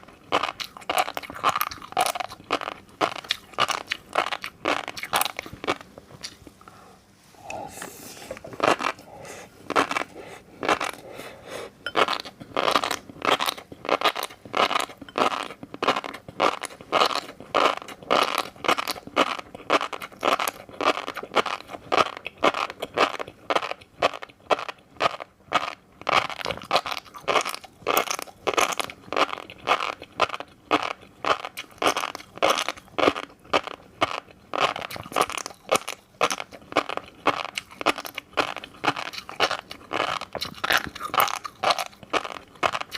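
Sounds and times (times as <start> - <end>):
crunchy chewing: 0.0 - 6.6, 8.3 - 11.2, 11.9 - 42.9.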